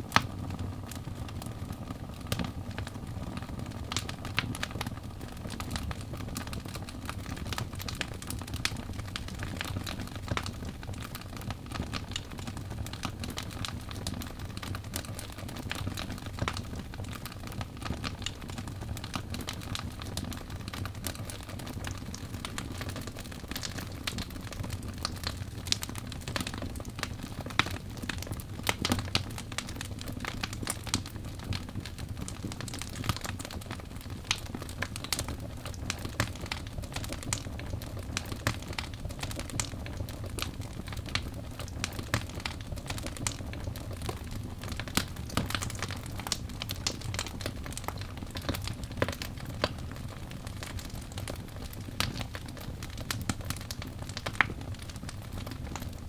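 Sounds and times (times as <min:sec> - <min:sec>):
fire crackling and popping: 0:00.0 - 0:56.0
logs burning in a fireplace: 0:00.0 - 0:56.0.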